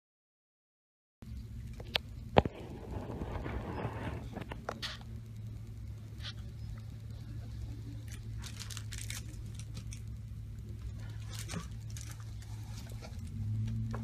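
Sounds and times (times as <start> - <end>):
low room hum: 1.2 - 14.0
rustling and handling noises: 1.7 - 14.0.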